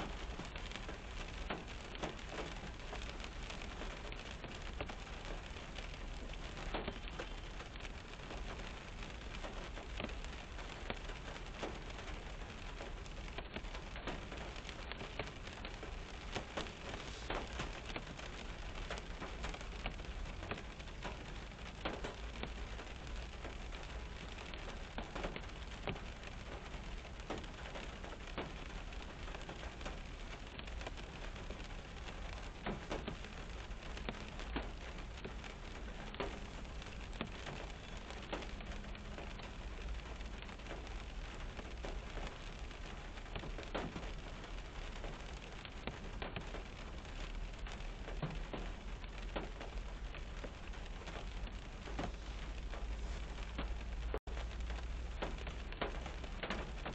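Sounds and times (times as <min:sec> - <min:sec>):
rain on car roof: 0:00.0 - 0:56.9.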